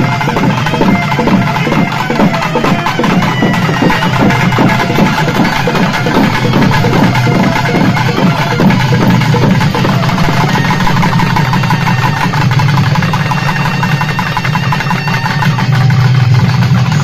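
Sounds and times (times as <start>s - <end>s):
rapid barrel drum beating: 0.0s - 17.0s.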